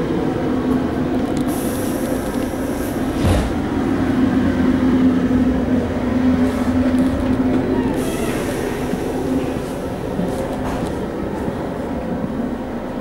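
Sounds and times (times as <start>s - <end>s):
train coach hum and rumble: 0.0s - 13.0s.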